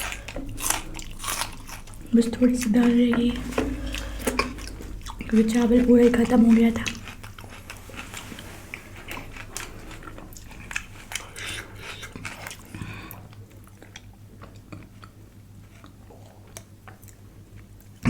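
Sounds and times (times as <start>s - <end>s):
person chewing and smacking: 0.0s - 18.0s.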